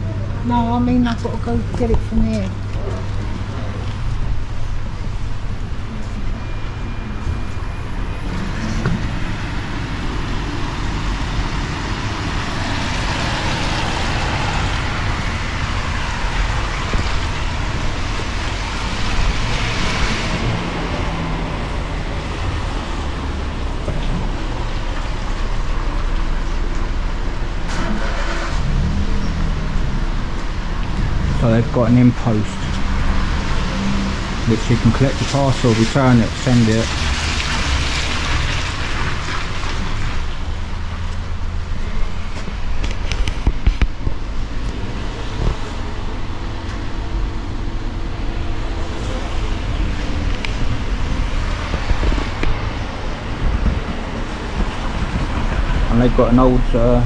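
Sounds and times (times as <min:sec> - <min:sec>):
traffic low rumble: 0:00.0 - 0:57.0.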